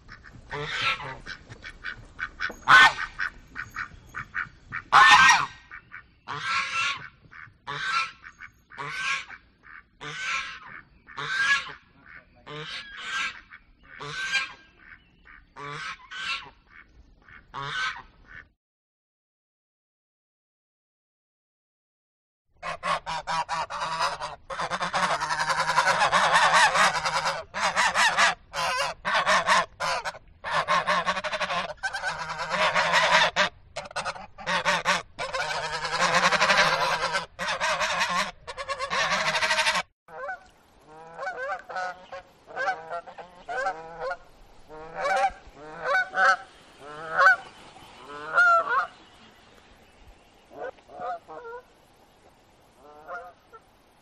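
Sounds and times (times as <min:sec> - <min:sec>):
geese honking: 0:00.0 - 0:18.5, 0:22.6 - 0:49.6, 0:50.5 - 0:51.7, 0:52.8 - 0:53.6.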